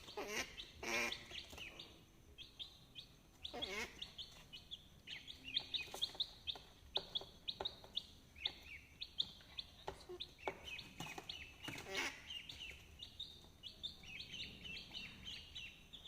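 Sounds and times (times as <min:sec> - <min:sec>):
chickens cheeping: 0:00.0 - 0:16.0.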